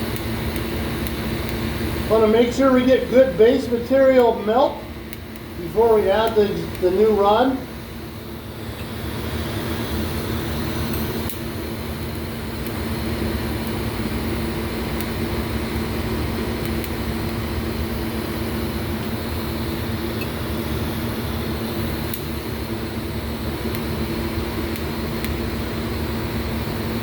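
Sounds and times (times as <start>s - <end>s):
welding arc hissing: 0.0s - 27.0s.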